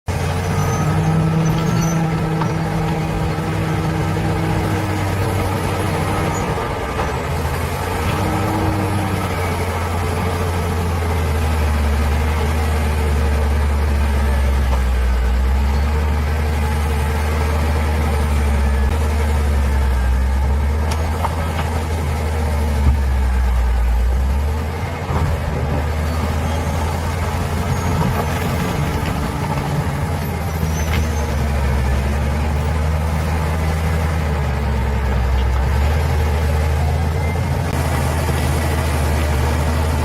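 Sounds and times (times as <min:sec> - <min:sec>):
diesel engine droning: 0:00.1 - 0:40.0.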